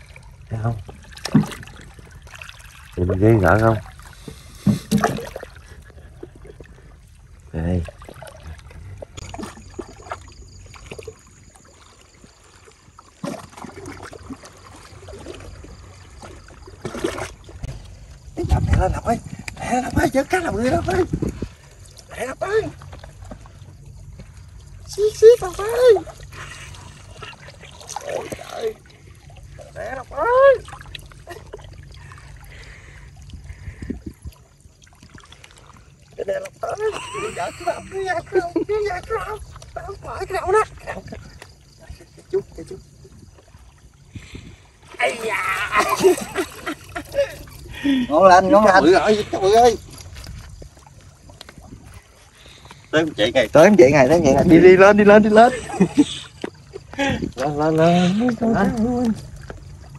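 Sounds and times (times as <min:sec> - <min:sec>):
sea water lapping on rocks: 0:00.0 - 0:40.1, 0:40.7 - 0:59.9.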